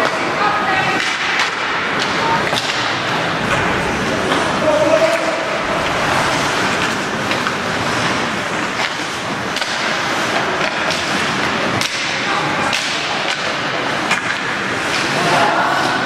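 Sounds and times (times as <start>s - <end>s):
hockey sticks and puck clacking: 0.0s - 16.0s.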